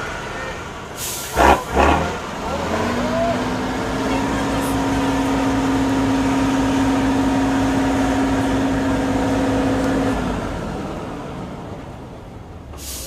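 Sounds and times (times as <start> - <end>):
engine whine: 0.0 - 13.0
truck engine rumble: 0.0 - 13.0.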